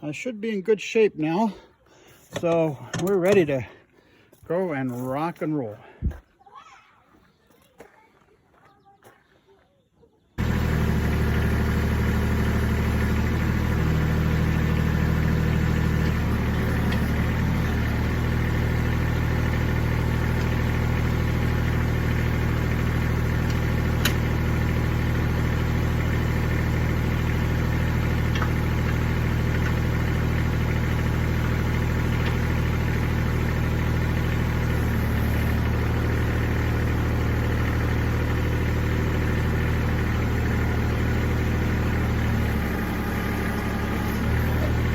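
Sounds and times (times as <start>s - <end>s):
tractor diesel engine running: 2.2s - 3.7s, 10.4s - 44.9s.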